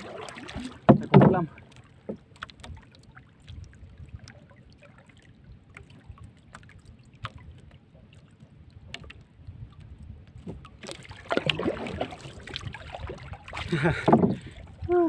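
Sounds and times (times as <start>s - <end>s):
water lapping around boat: 0.0s - 15.0s.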